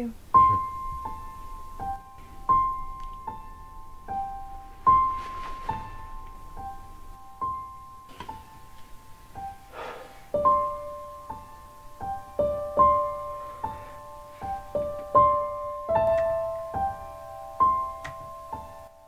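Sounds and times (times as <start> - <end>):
soft piano melody: 0.0 - 19.0.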